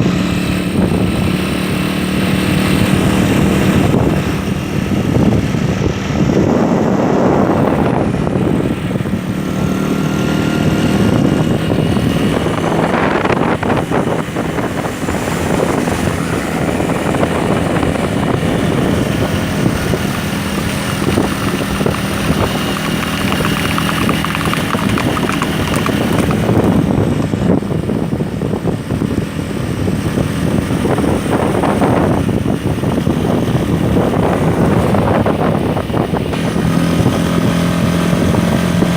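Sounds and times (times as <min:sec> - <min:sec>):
engine humming with rushing noise: 0:00.0 - 0:38.9.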